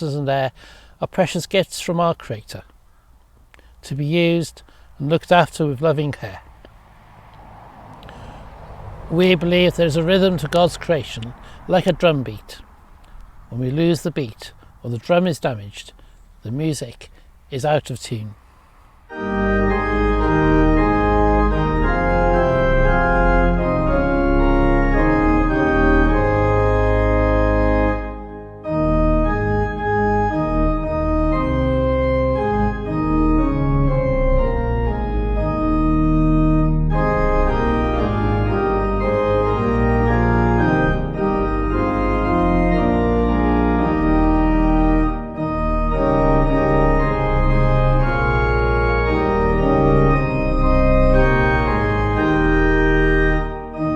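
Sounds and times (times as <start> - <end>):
organ playing held chords: 7.9 - 16.8, 19.1 - 53.9.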